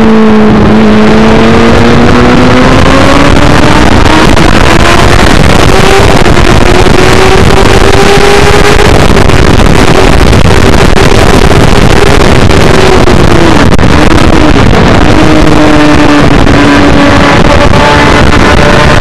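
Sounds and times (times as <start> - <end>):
motorcycle engine at high revs: 0.0 - 19.0
wind rush on microphone: 0.0 - 19.0.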